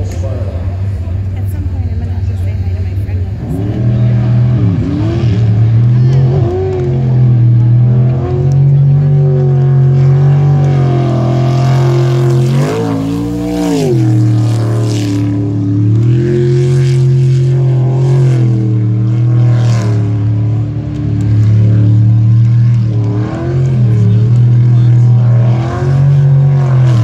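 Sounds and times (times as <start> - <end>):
boat engine running at high revs: 0.0 - 27.0.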